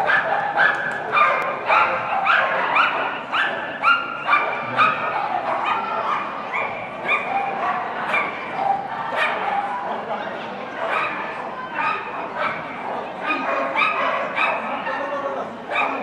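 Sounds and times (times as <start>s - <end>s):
dog barking high yappy barks: 0.0s - 9.7s, 10.8s - 11.2s, 11.8s - 14.8s, 15.7s - 16.0s.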